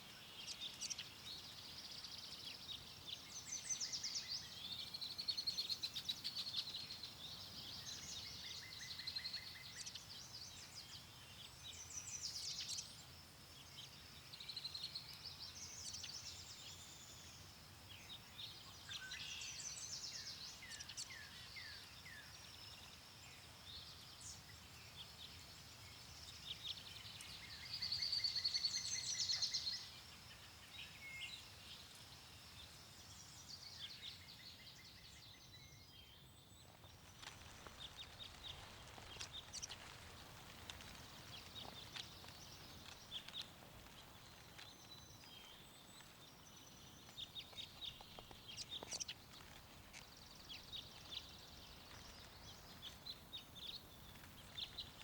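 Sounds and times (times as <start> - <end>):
faint low background hiss: 0.0 - 55.0
songbirds singing and chirping: 0.0 - 55.0.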